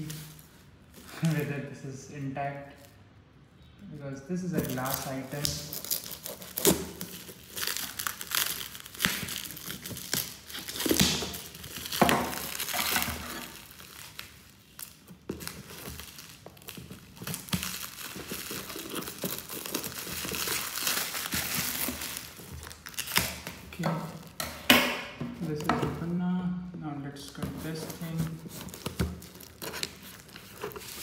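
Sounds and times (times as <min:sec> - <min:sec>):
plastic wrap and tape tearing: 0:00.0 - 0:01.6, 0:04.4 - 0:24.7, 0:27.2 - 0:31.0.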